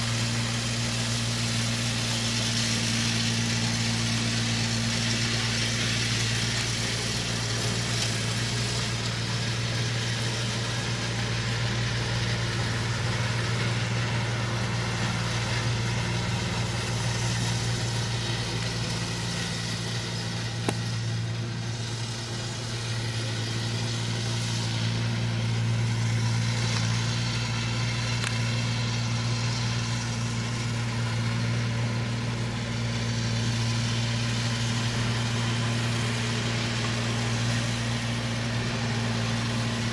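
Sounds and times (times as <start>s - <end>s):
machine engine humming with hiss: 0.0s - 39.9s.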